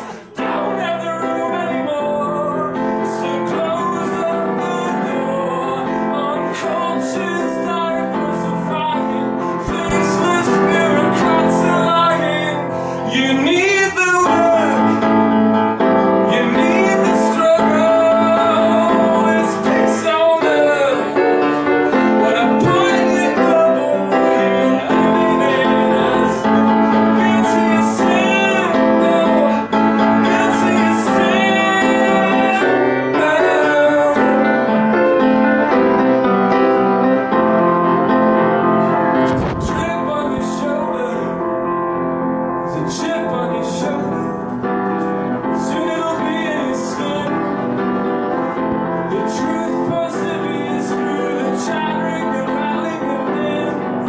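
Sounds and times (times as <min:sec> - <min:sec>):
man singing: 0:00.0 - 0:54.0
piano chords: 0:00.0 - 0:54.0.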